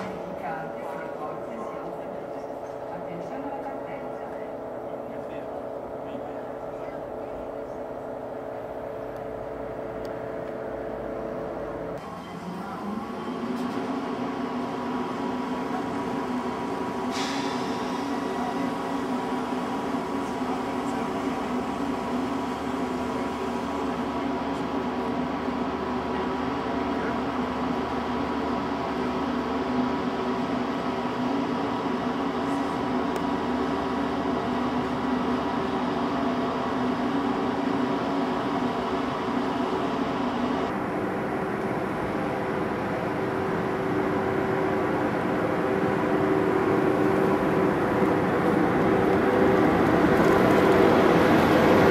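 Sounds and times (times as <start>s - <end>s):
train equipment humming: 0.0s - 51.9s.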